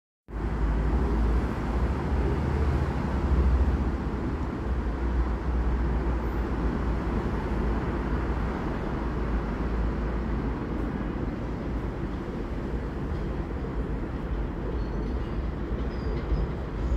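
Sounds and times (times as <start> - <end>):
low city and rail rumble: 0.3 - 16.9.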